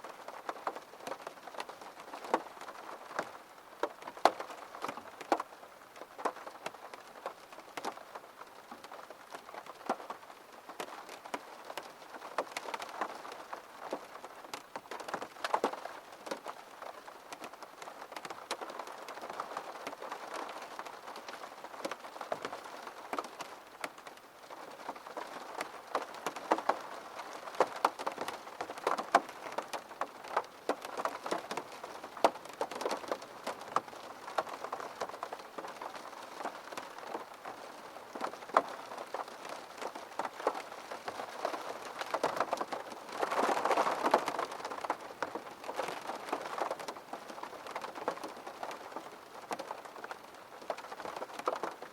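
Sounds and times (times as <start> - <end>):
rain pattering on a window: 0.0 - 51.9.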